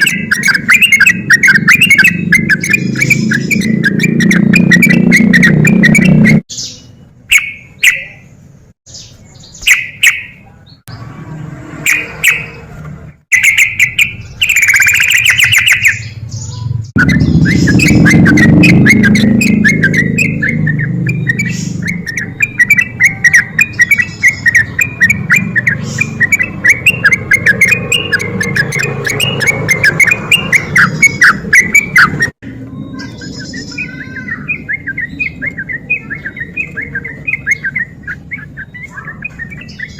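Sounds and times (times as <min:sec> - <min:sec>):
bulbul singing whistled phrases: 0:00.0 - 0:10.9, 0:11.9 - 0:12.6, 0:13.3 - 0:39.9.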